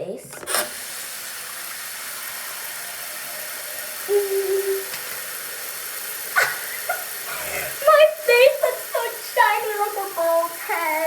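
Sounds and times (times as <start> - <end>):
tap running into sink: 0.3 - 10.9.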